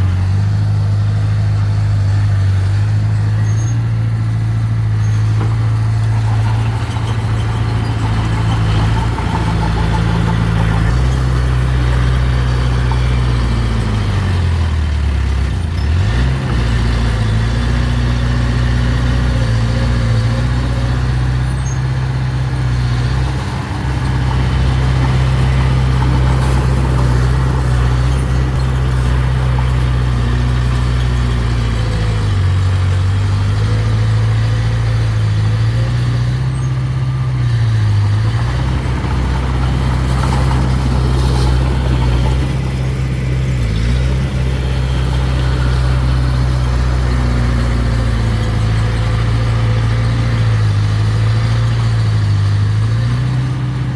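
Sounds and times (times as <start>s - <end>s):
bulldozer engine running: 0.0s - 53.9s.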